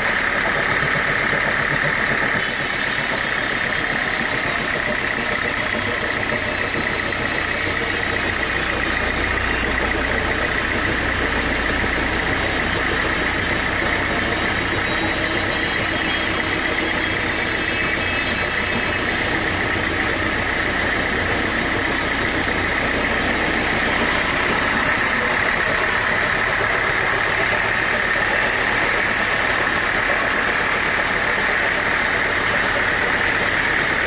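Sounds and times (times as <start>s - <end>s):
sawmill machinery drone: 0.0s - 34.0s
steady high whine: 2.3s - 34.0s.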